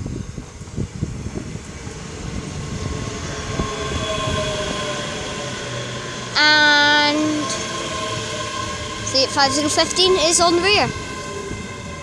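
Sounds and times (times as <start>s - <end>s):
faint train whine: 0.0s - 12.0s
train wheels rumbling: 0.0s - 12.0s.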